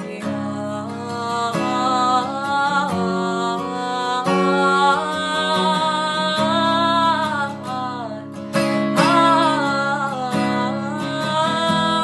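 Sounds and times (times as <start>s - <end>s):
person singing: 0.0s - 12.0s
strummed acoustic guitar: 0.0s - 12.0s.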